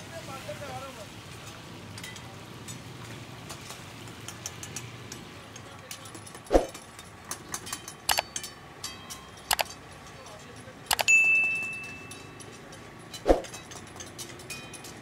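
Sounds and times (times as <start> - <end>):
metal ladles clanging on woks: 1.1 - 15.0.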